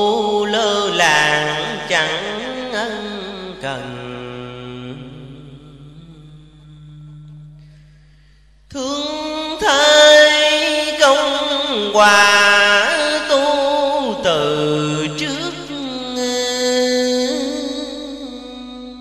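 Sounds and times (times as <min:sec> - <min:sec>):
person chanting a poem: 0:00.0 - 0:07.7, 0:08.7 - 0:19.0.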